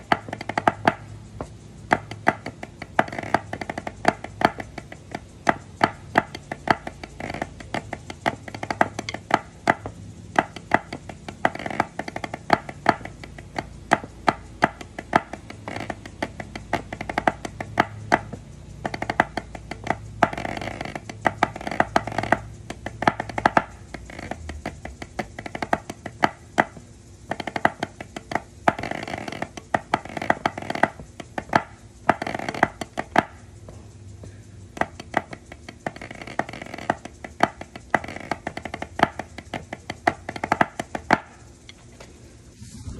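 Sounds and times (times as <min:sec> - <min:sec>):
drumsticks tapping practice pad: 0:00.0 - 0:42.2.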